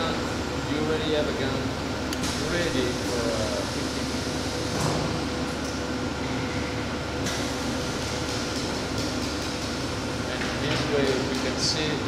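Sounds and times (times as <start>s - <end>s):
factory machinery hum and hiss: 0.0s - 12.0s.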